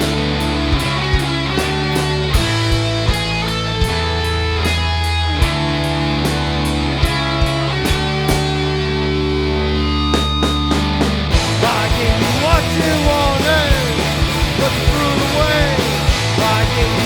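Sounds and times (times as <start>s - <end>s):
drum and cymbal hits: 0.0s - 8.8s, 10.2s - 17.0s
bass: 0.0s - 17.0s
electric guitar chords: 0.0s - 17.0s.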